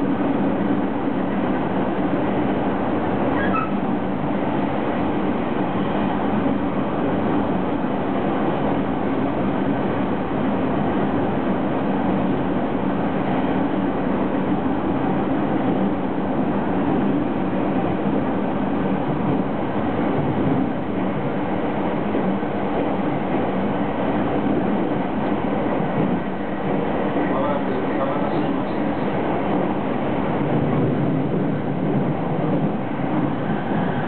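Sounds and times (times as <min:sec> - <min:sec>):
train running at speed: 0:00.0 - 0:34.0.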